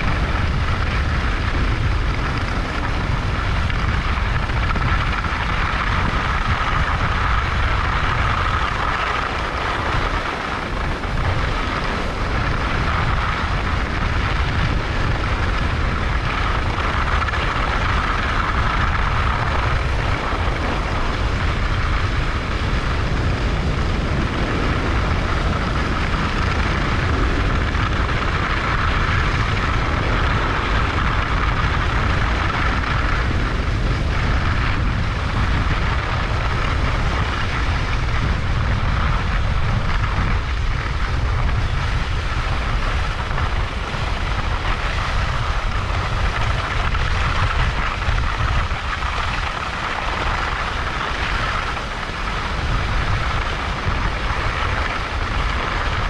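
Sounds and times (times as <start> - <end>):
skis sliding over snow: 0.0 - 56.0
wind rushing over microphone: 0.0 - 56.0.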